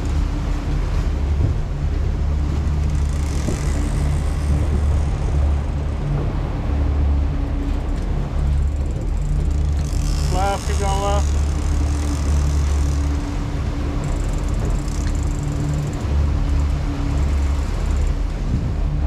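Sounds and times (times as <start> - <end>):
outboard engines droning: 0.0 - 19.0
water rushing: 0.0 - 19.0
wind: 0.0 - 19.0.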